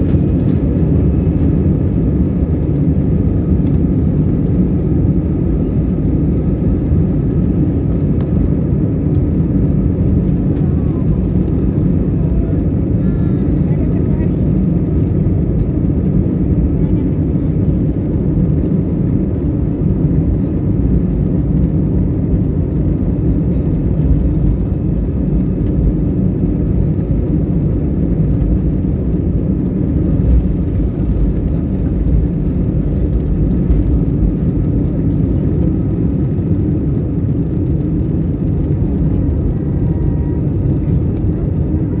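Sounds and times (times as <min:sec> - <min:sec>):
jet engines rumbling in cabin: 0:00.0 - 0:42.0.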